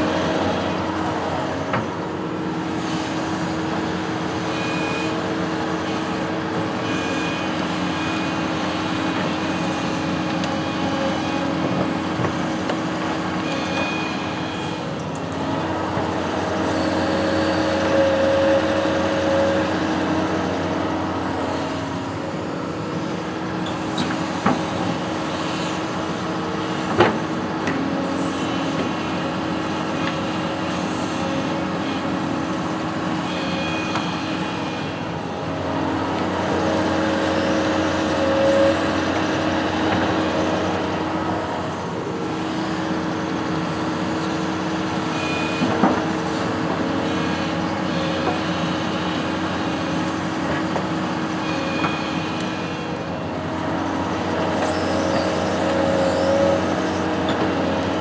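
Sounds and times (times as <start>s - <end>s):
construction machine engine running: 0.0s - 58.0s.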